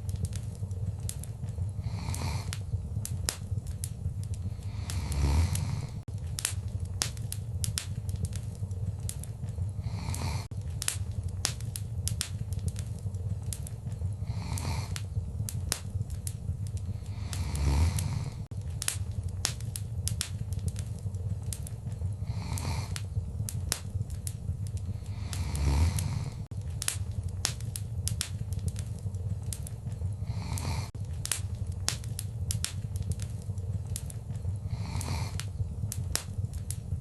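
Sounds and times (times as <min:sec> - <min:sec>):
low rumble of flame: 0:00.0 - 0:37.0
wood fire crackling and popping: 0:00.0 - 0:37.0.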